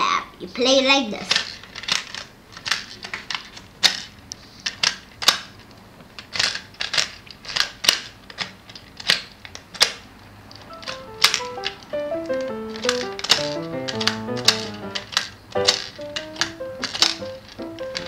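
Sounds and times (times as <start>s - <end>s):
plastic toy clicking: 1.2s - 18.0s.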